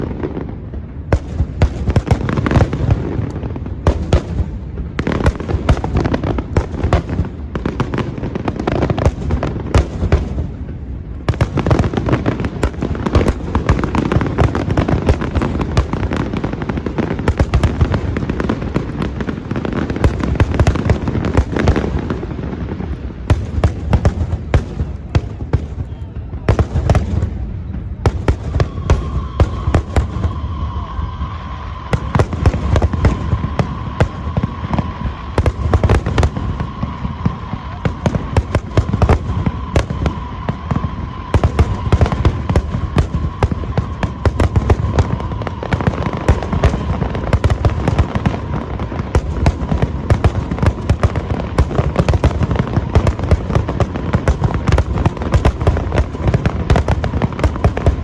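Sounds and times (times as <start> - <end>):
firework shell bursts and crackling: 0.0 - 58.0.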